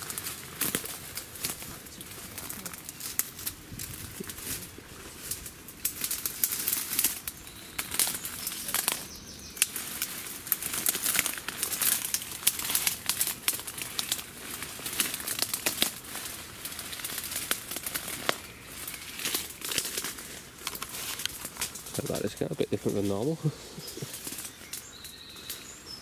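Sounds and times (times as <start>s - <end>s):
undergrowth rustling and snapping: 0.0s - 26.0s.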